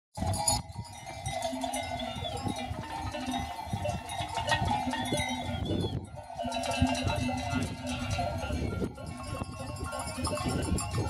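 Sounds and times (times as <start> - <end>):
sheep bells clanking: 0.2 - 11.0.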